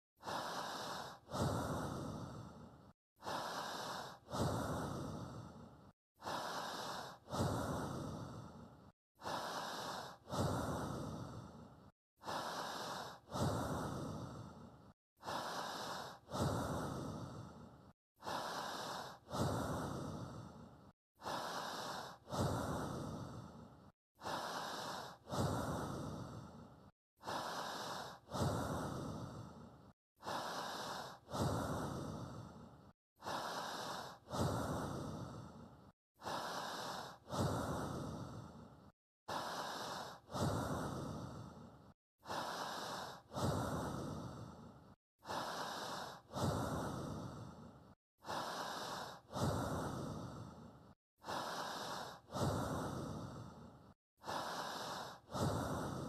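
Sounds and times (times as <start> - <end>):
person breathing in and out: 0.2 - 56.0.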